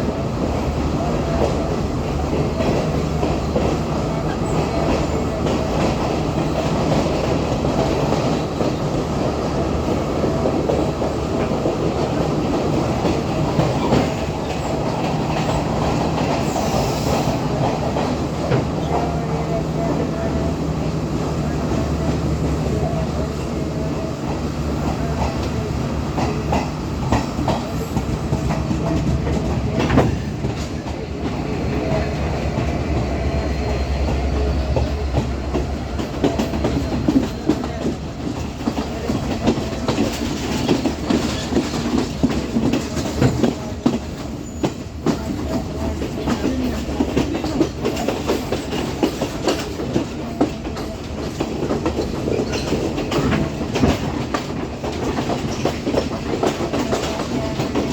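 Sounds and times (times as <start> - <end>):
train low rumble: 0.0 - 57.9
wheels clacking over rail joints: 0.0 - 57.9.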